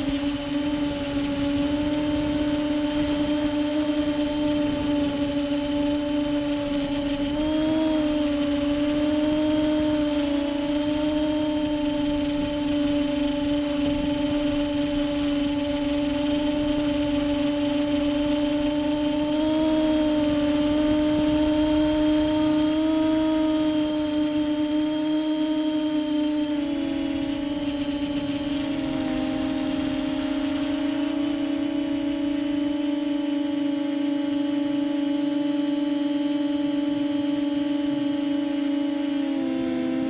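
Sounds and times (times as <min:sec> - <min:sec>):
drone motors humming: 0:00.0 - 0:40.0
high thin whine: 0:00.0 - 0:40.0.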